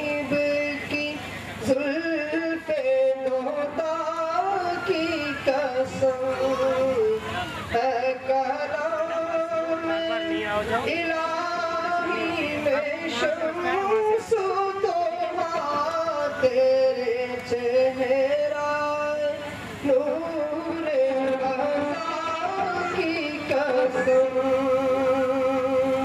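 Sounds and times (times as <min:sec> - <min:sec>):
man singing devotional poem: 0:00.0 - 0:26.0.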